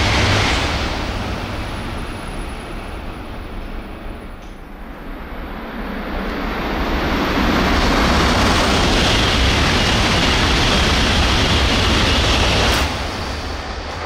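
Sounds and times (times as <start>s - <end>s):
high-speed train passing: 0.0s - 14.0s.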